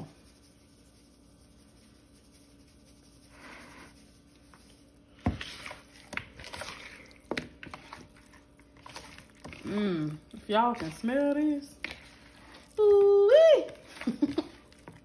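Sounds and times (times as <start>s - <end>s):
clicks and rubbing of chicken pieces: 0.1s - 15.0s.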